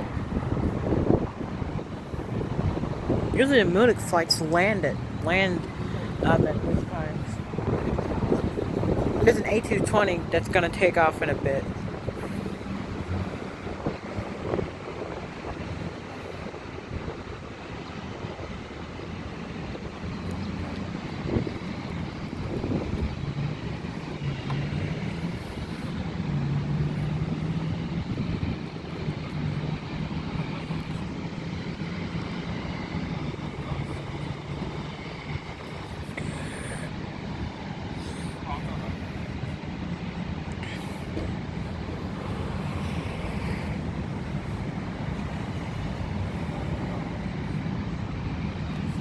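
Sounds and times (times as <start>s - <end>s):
jet engines rumbling: 0.0s - 49.0s.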